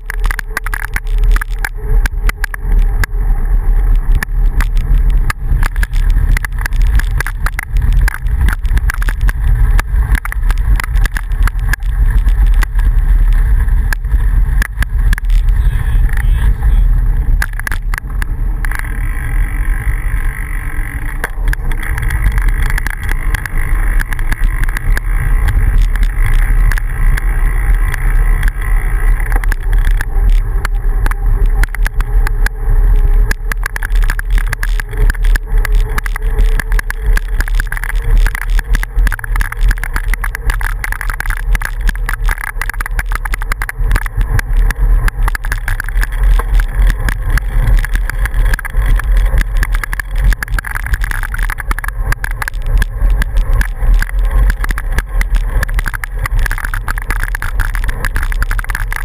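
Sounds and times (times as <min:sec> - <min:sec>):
bicycle tyres on gravel: 0:00.0 - 0:59.0
small clicks and rattles: 0:00.0 - 0:59.0.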